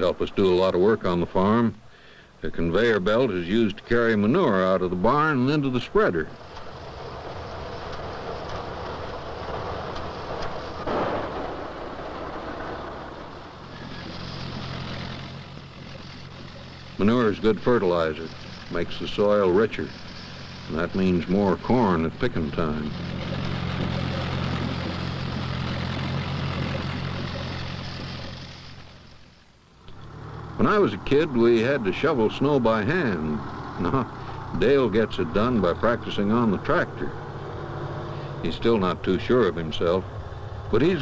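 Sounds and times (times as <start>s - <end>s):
farm machinery engine hum: 0.0s - 41.0s
manure conveyor rumbling: 0.0s - 41.0s.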